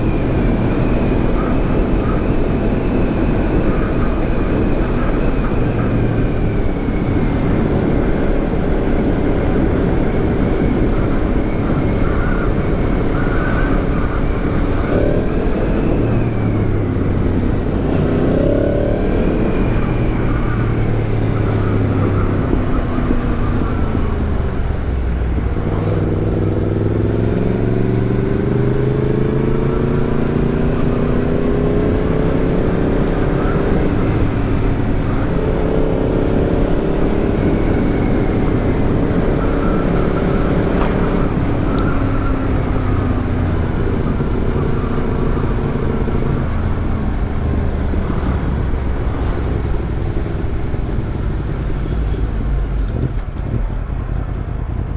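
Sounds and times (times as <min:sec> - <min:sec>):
motorcycle engine while riding: 0:00.0 - 0:54.9.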